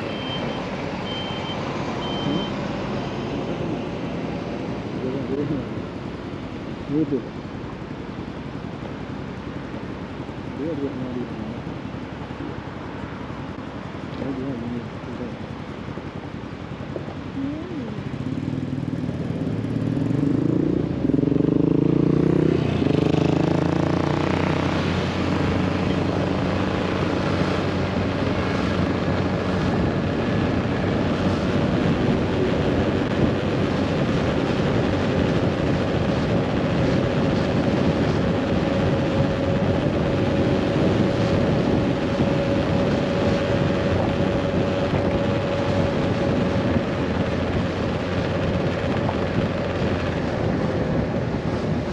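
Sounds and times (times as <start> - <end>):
wind and road noise: 0.0 - 51.9.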